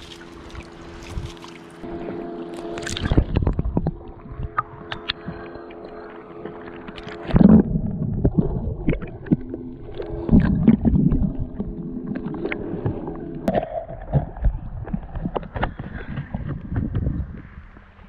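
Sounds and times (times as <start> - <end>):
steady low hum: 0.0 - 18.0
water sloshing and splashing: 0.0 - 18.0.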